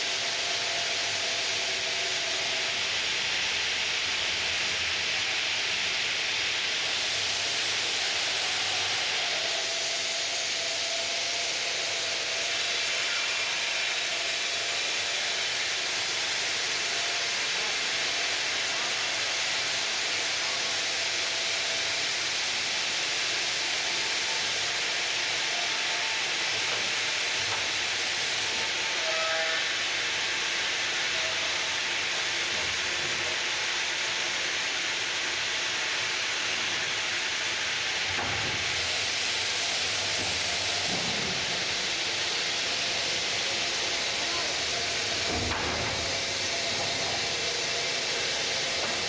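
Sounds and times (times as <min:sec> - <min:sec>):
saw cutting through granite: 0:06.9 - 0:49.0.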